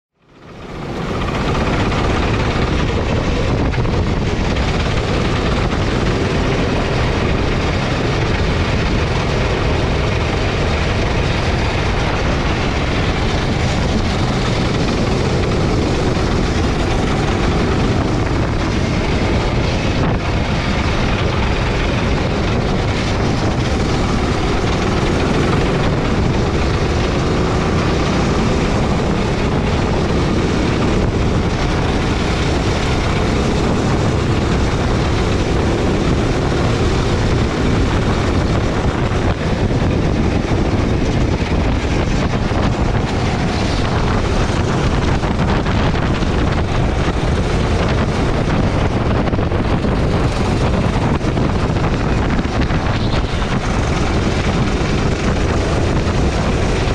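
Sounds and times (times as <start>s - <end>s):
dense rushing noise: 0.1s - 56.9s
kart engine running: 0.2s - 56.9s.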